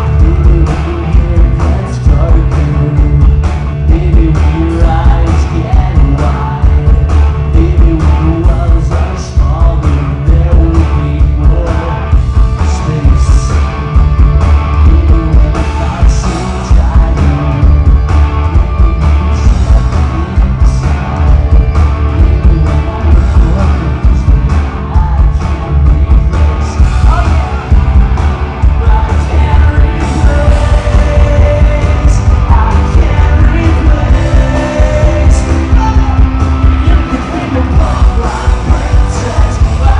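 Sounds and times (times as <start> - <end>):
drums: 0.0 - 39.9
electric guitars: 0.0 - 39.9
pop-punk band playing live: 0.0 - 39.9
sung vocals: 0.0 - 39.9.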